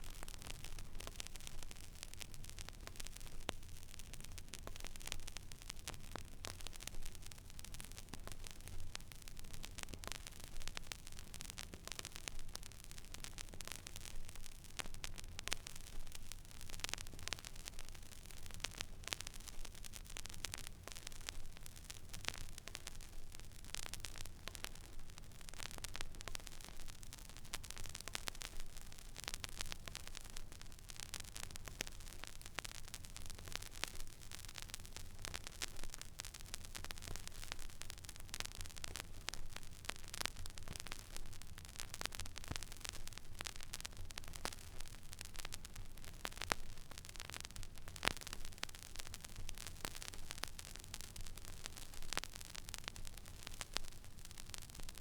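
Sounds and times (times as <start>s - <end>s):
vinyl surface hiss and crackle: 0.0s - 55.0s.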